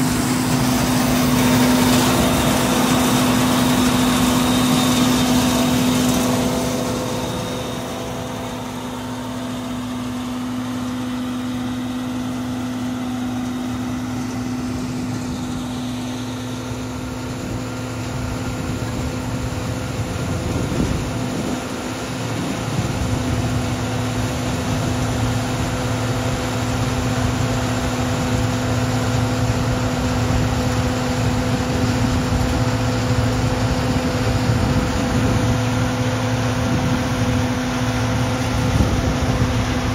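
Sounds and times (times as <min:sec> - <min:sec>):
harvester engine humming: 0:00.0 - 0:39.9.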